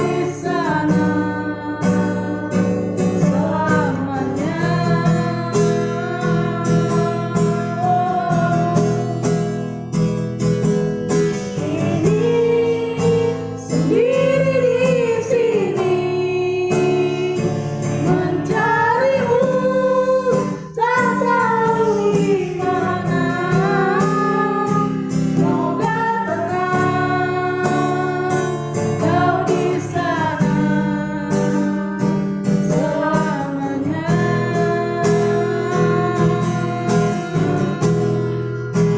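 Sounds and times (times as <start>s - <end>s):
person singing: 0.0s - 9.5s, 11.4s - 38.9s
acoustic guitar strumming: 0.0s - 38.9s.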